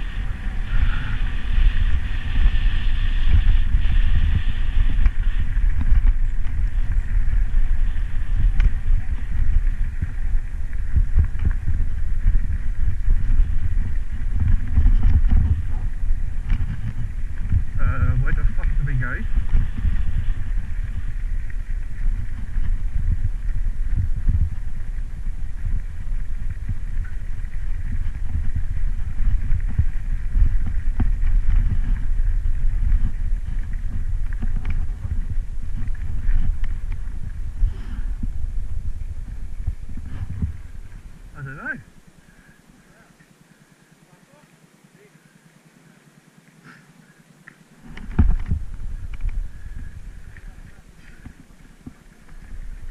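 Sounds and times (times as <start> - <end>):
bike clicks and rattles: 0.0 - 41.2, 46.8 - 52.9
wind buffeting microphone: 0.0 - 42.7, 47.7 - 52.9
bicycle tyres rumbling on gravel: 0.0 - 44.4, 45.0 - 52.9.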